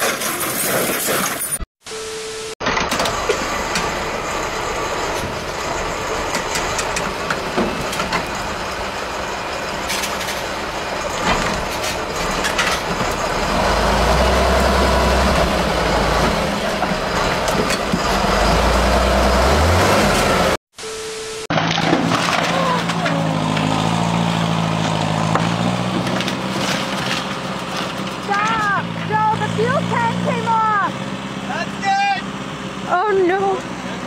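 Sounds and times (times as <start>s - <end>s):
truck diesel engine under load: 2.6s - 34.0s.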